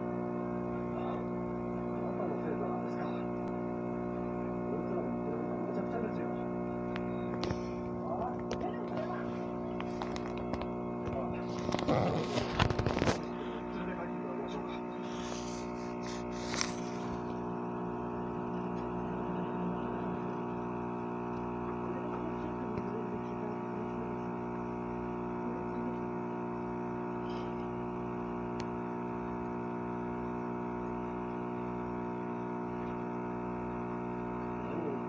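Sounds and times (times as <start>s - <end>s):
aquarium pump motor humming: 0.0s - 35.0s.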